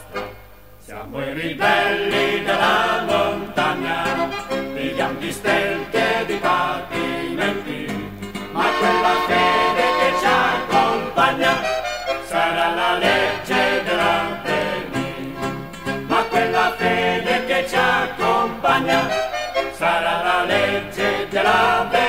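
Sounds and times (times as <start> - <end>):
instrumental folk song music: 0.0 - 22.0.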